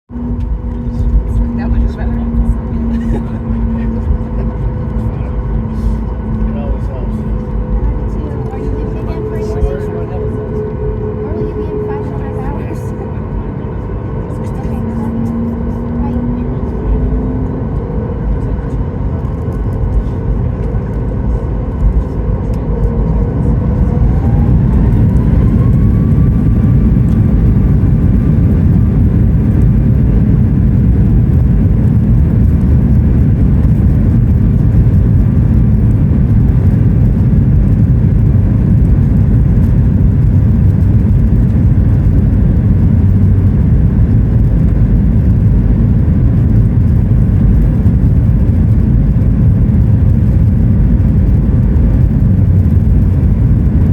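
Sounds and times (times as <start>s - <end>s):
steady loud jet rumble: 0.1s - 53.9s
jet engines spooling up: 0.4s - 49.2s.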